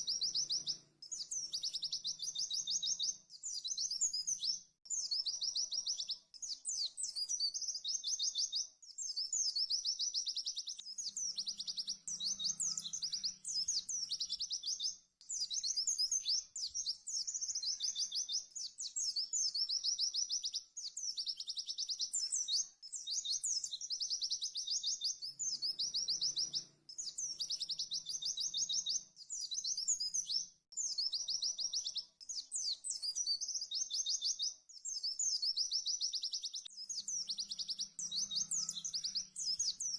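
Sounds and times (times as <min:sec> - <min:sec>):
bird singing rapid high trills: 0:00.0 - 0:39.9.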